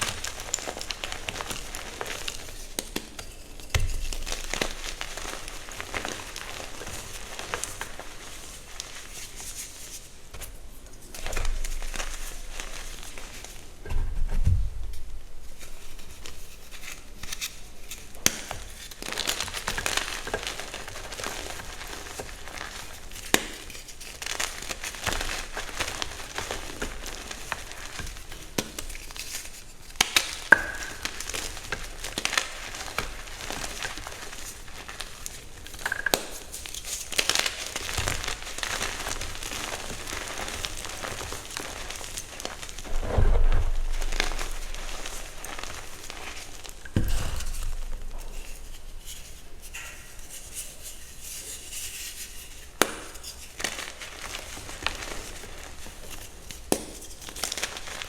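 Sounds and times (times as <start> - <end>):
chalk blocks crunching: 0.0 - 13.8, 15.5 - 58.0.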